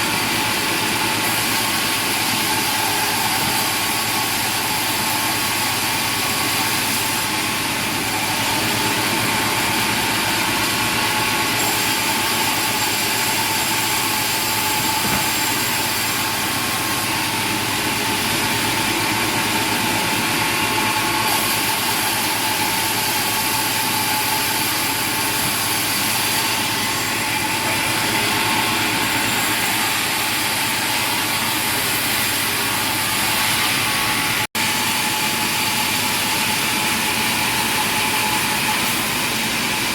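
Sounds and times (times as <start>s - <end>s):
machinery running with whine: 0.0s - 39.9s.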